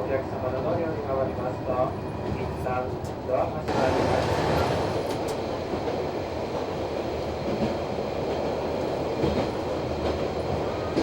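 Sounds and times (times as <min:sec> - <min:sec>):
railcar engine and wheel rumble: 0:00.0 - 0:11.0.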